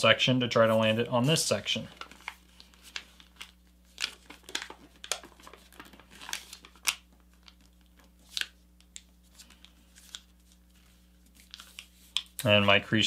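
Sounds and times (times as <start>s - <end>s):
paper crinkling and rustling: 0.6s - 12.8s.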